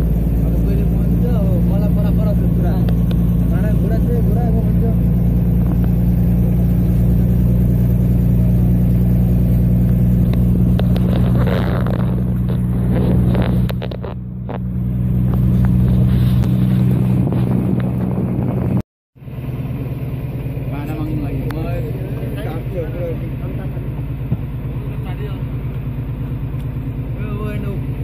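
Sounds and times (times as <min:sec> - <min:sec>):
ferry engine humming: 0:00.0 - 0:28.0.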